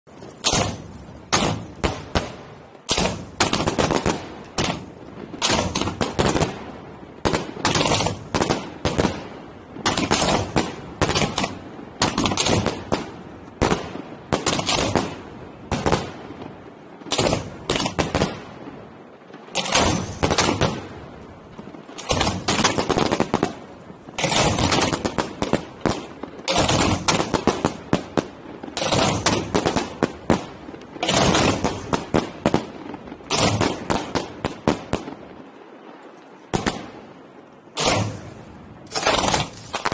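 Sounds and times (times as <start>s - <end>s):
fireworks bangs: 0.1s - 39.9s.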